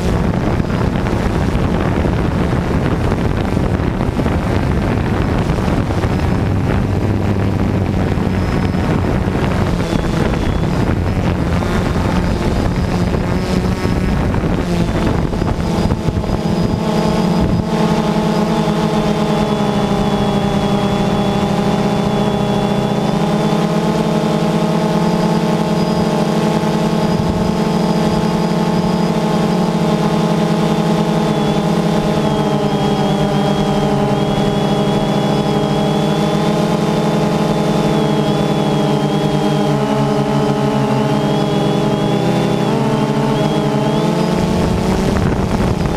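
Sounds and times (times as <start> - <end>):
drone motors humming: 0.0 - 45.9
high whine: 0.0 - 45.9
wind on microphone: 0.0 - 45.9.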